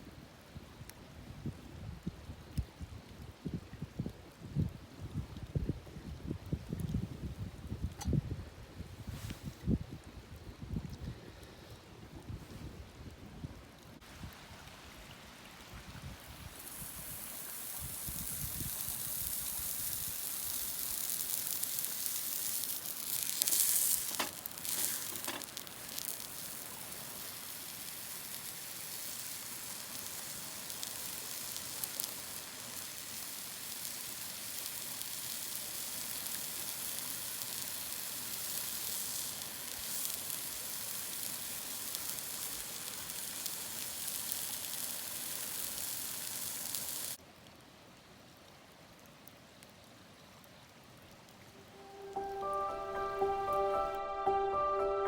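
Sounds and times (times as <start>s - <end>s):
food sizzling over campfire: 0.0s - 54.5s.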